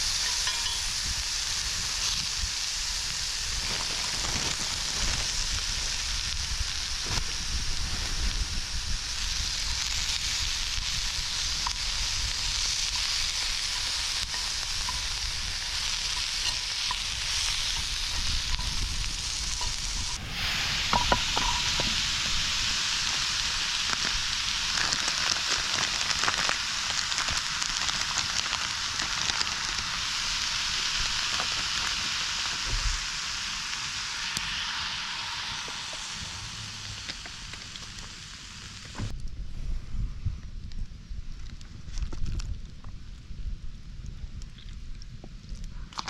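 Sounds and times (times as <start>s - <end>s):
food sizzling in a pan: 0.0s - 39.1s
crackles and clicks: 0.0s - 39.4s, 40.4s - 46.0s.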